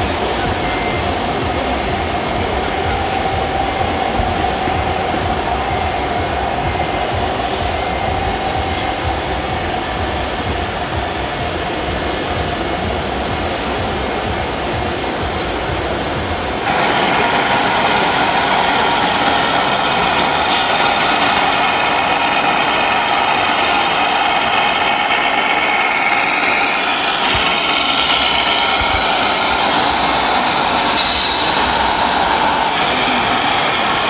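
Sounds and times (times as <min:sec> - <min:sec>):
model truck engine running: 0:00.0 - 0:34.0.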